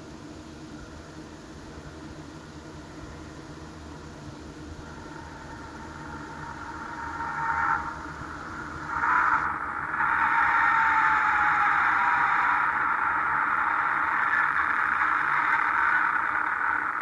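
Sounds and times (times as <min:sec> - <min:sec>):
thin rushing train noise: 0:02.9 - 0:17.0.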